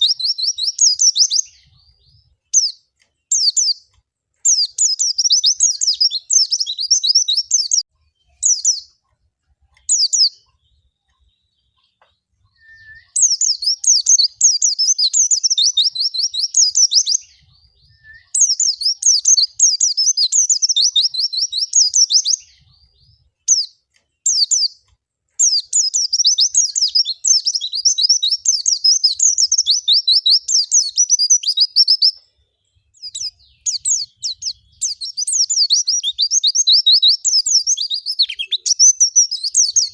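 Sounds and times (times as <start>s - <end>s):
white-eye twittering song: 0.0s - 9.2s, 9.8s - 39.9s.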